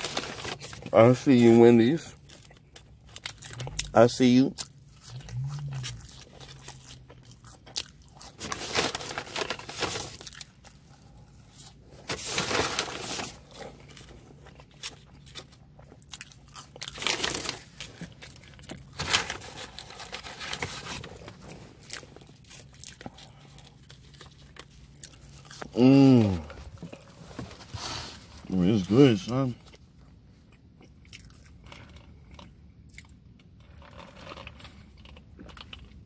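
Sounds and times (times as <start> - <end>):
chewing crunchy fries: 0.0 - 27.4, 28.4 - 36.0.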